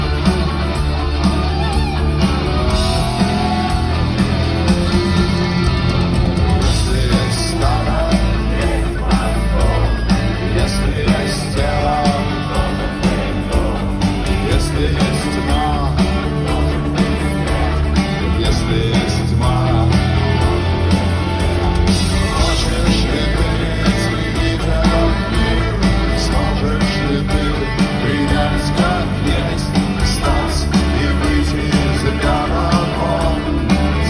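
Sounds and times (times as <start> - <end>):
live rock band playing: 0.0 - 34.0
person singing: 2.6 - 5.5, 6.6 - 34.0.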